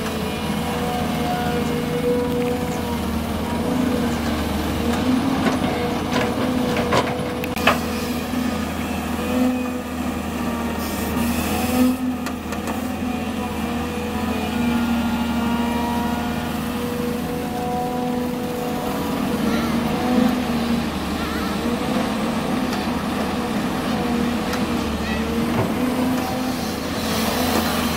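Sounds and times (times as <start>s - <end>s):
heavy diesel machinery running: 0.0s - 27.9s.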